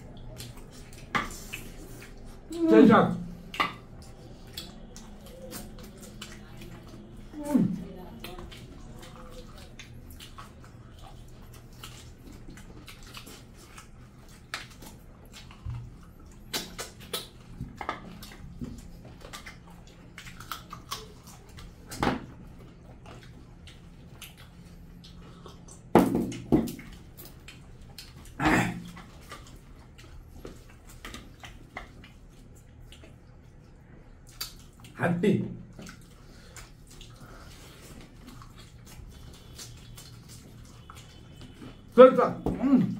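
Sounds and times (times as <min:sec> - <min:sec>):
wet chewing and lip smacking: 0:00.0 - 0:35.0, 0:35.6 - 0:42.9.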